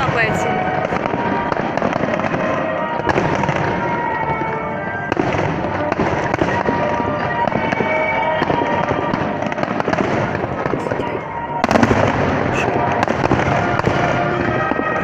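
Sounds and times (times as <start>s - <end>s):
fireworks bangs and crackling: 0.0s - 15.0s
music playing: 0.0s - 15.0s.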